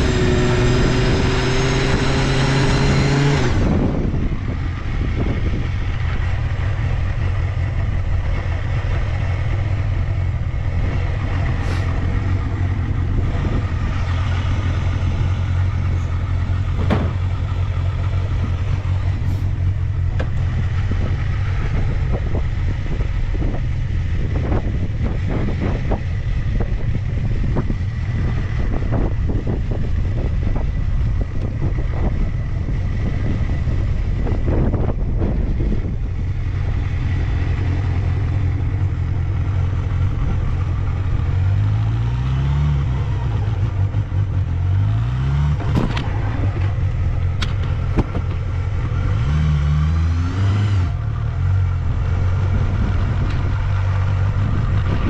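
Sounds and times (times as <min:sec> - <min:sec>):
engine revving: 0:00.0 - 0:23.6, 0:34.5 - 0:55.0
motorcycle engine idling: 0:03.6 - 0:41.8, 0:45.9 - 0:49.1, 0:50.9 - 0:55.0.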